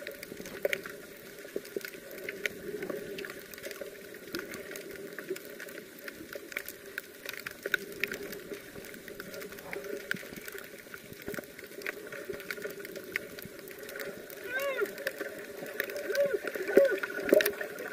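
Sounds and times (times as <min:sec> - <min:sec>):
muffled underwater wash: 0:00.0 - 0:17.9
small underwater clicks and crackles: 0:00.0 - 0:17.9.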